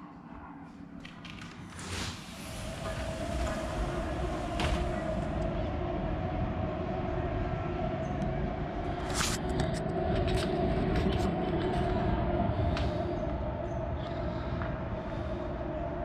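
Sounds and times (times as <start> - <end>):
steady hum: 0.0 - 16.0
low rumble of city traffic: 1.4 - 16.0.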